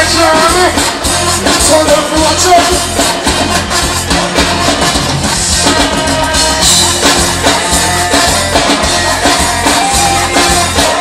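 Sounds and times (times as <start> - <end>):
live reggae band playing: 0.0 - 11.0.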